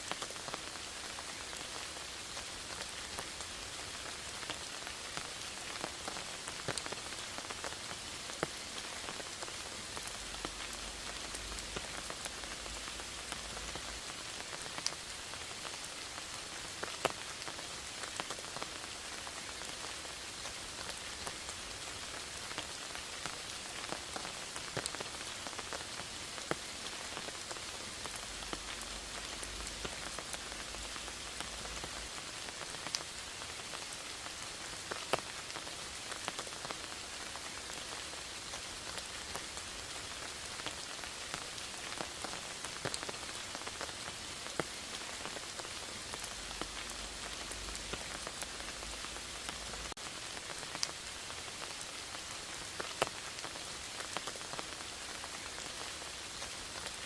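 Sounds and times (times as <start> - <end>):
raindrops ticking on leaves: 0.0 - 57.0
steady rain hiss: 0.0 - 57.0.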